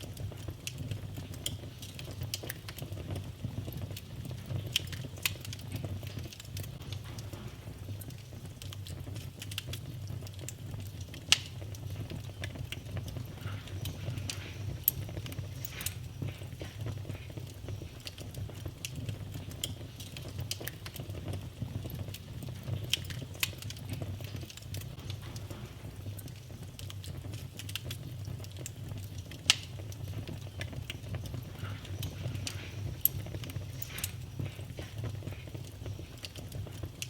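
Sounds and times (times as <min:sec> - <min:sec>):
fire popping: 0:00.0 - 0:37.0
wood fire crackling: 0:00.0 - 0:37.0.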